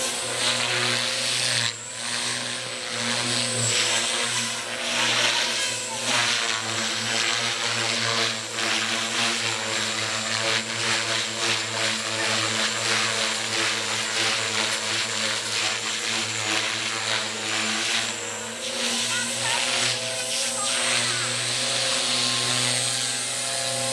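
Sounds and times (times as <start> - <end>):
rc helicopter motor whine: 0.0 - 23.9.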